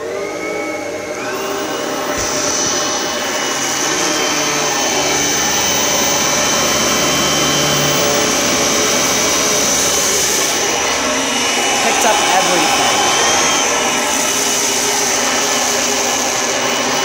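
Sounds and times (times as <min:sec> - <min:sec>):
vacuum cleaner high whine: 0:00.0 - 0:17.0.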